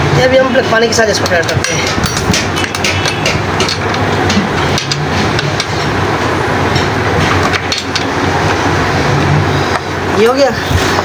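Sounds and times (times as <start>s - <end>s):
mechanical rumble: 0.0s - 11.0s.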